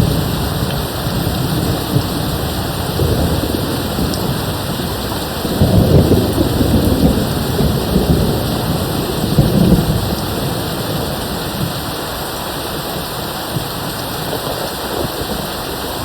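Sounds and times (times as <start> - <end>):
distant thunder rumbling: 0.0 - 16.0
steady rain: 0.0 - 16.0.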